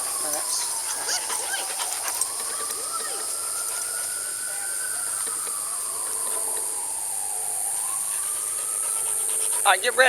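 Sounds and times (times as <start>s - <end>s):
high-pitched outdoor hiss: 0.0s - 10.0s.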